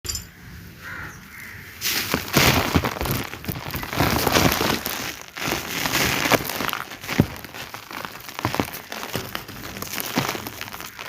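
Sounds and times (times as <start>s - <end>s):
sand-cement lumps crunching: 0.8s - 11.0s.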